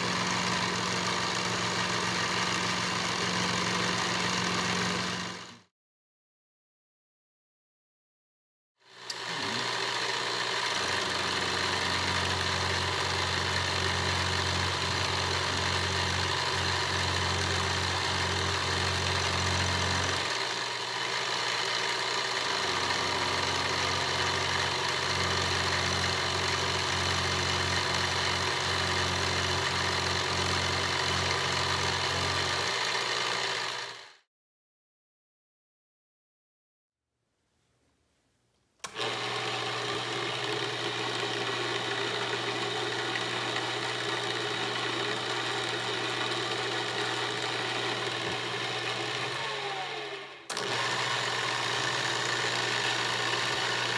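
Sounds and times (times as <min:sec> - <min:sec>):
milling machine humming: 0:00.0 - 0:05.5, 0:09.0 - 0:34.0, 0:38.8 - 0:53.9.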